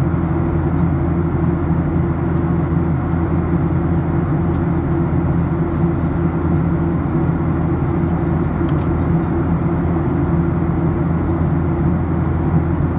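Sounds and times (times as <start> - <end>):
airplane cabin drone: 0.0 - 12.9.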